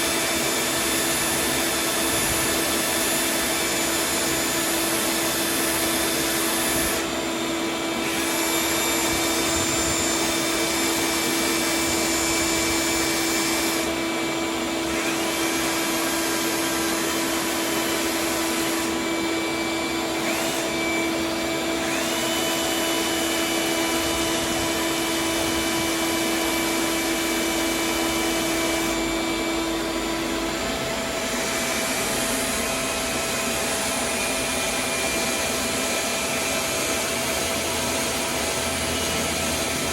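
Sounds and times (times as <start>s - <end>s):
vacuum running: 0.0s - 39.9s.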